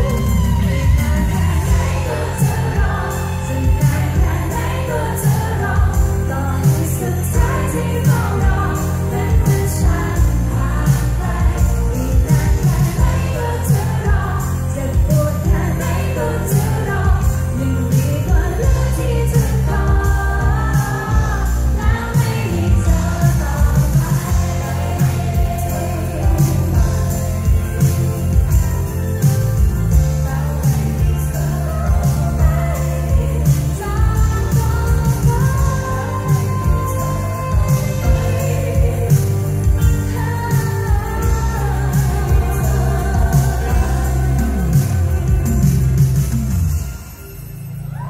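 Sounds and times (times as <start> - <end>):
woman singing: 0.0 - 28.7, 29.9 - 46.0
live pop band: 0.0 - 48.0.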